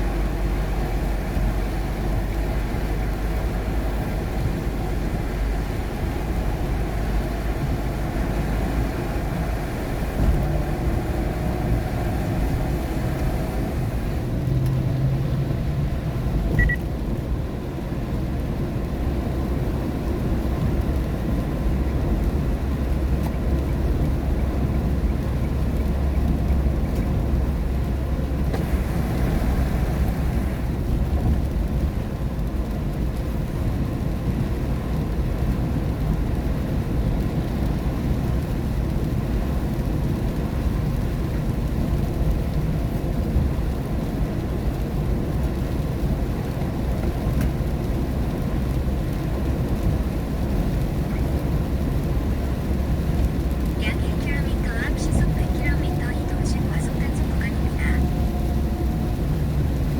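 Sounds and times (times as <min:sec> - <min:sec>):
car engine: 0:00.0 - 0:59.9
tyres rumbling on wet road: 0:00.0 - 0:59.9.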